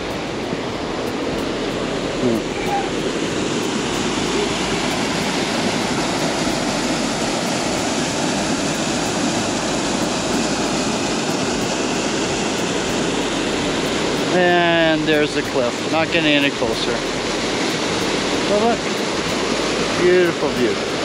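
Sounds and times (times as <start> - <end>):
rushing waterfall: 0.0 - 21.0.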